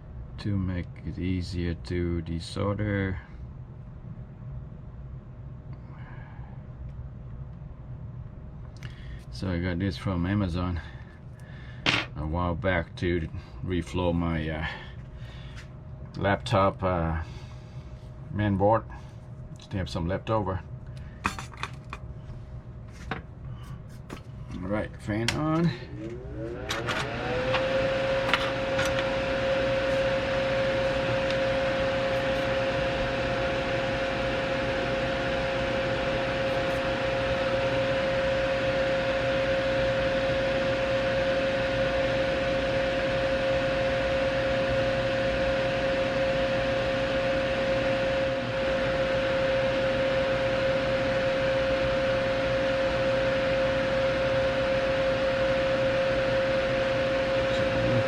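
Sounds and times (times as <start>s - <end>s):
electric fan whirring: 0.0s - 58.0s.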